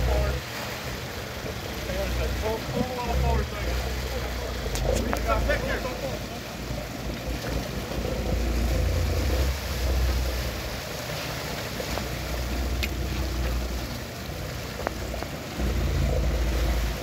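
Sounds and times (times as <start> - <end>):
water rushing and splashing: 0.0 - 17.0
low rumble: 1.3 - 17.0.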